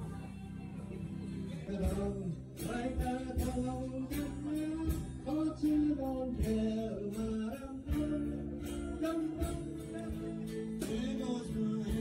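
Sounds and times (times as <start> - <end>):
guitar: 0.0 - 12.0
person singing: 0.0 - 12.0
steady beat: 1.7 - 12.0.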